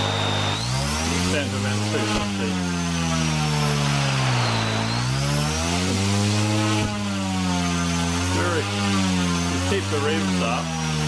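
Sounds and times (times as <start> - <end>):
electric motor and rotor whine: 0.0 - 11.0.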